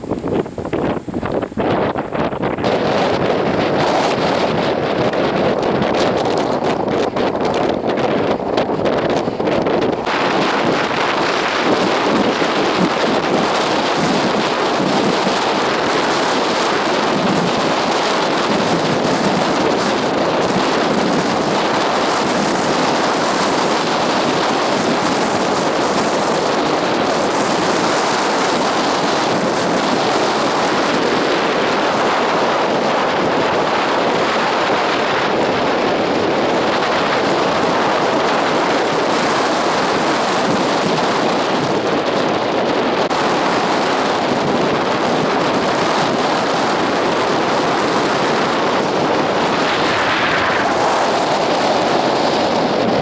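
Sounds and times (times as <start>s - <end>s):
strong wind on microphone: 0.0s - 53.0s.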